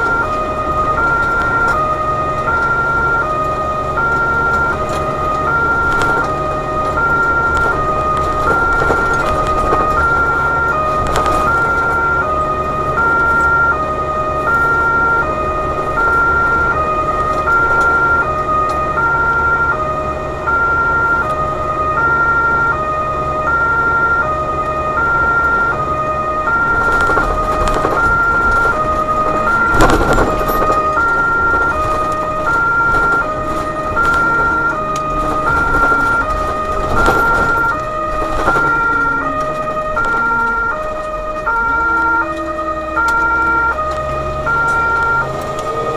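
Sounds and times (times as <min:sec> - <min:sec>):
truck engine and road hum: 0:00.0 - 0:45.9
two-tone emergency siren: 0:00.0 - 0:45.9.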